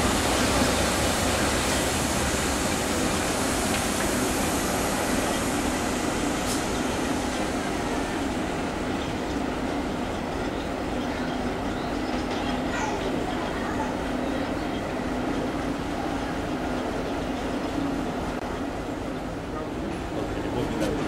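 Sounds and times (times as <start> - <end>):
electric locomotive rumble and hiss: 0.0 - 21.0.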